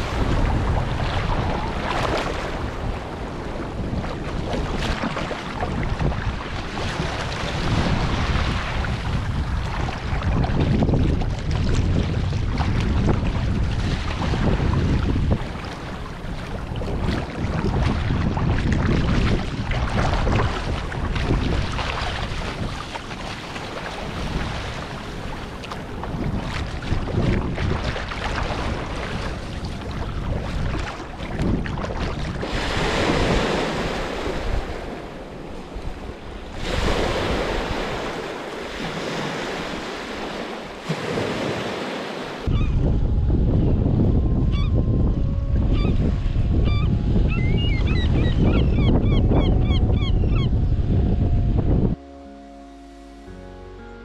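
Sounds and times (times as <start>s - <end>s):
waves splashing around kayak: 0.0s - 44.9s
wind on microphone: 0.0s - 52.1s.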